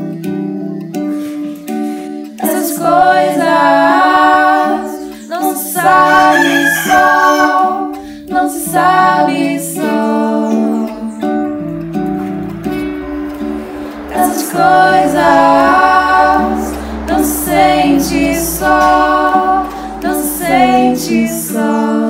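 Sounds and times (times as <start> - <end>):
plucked string accompaniment: 0.0 - 22.0
women singing in harmony: 2.3 - 22.0.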